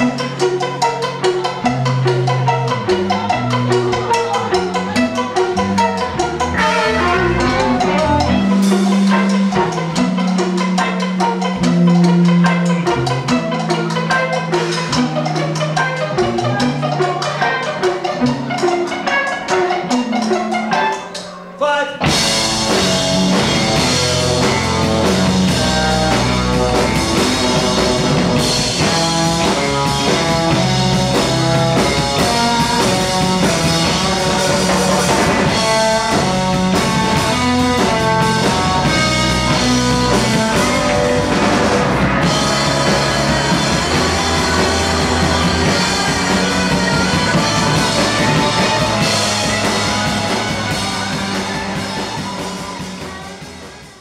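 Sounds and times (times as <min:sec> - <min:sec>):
rock music with drums and guitar: 0:00.0 - 0:54.0.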